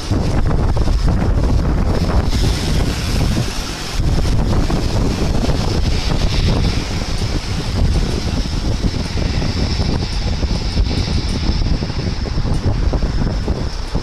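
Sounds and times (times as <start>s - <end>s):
jet engine high whine: 0.0s - 14.0s
wind buffeting microphone: 0.0s - 14.0s.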